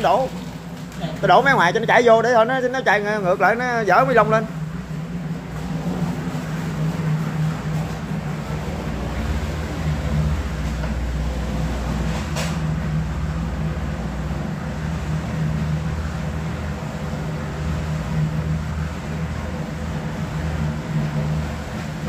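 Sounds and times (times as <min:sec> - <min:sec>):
concrete mixer engine droning: 0:00.0 - 0:22.0
concrete pouring: 0:00.0 - 0:22.0.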